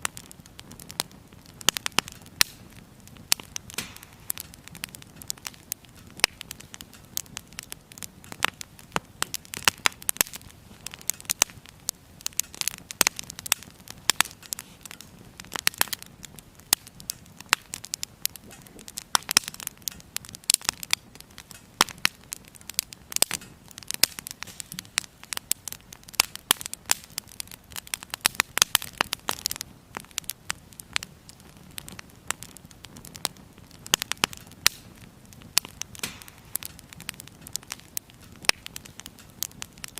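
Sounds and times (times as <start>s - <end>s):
soft steady hiss: 0.0s - 39.9s
wood fire crackling and popping: 0.0s - 39.9s.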